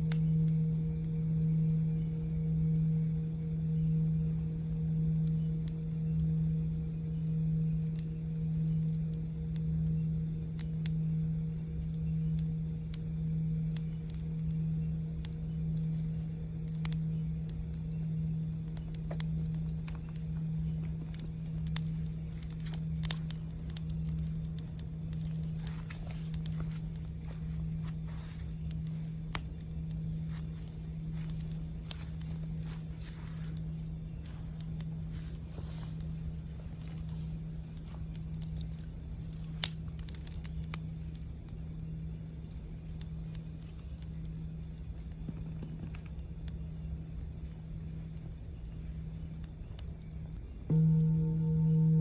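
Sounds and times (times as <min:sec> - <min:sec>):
campfire crackling and popping: 0:00.0 - 0:52.0
singing bowl humming: 0:00.0 - 0:52.0.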